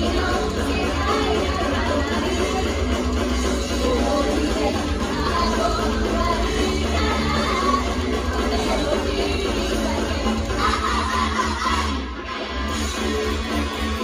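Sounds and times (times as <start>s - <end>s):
women singing into microphones: 0.0s - 12.0s
bass-heavy rock music: 0.0s - 14.0s.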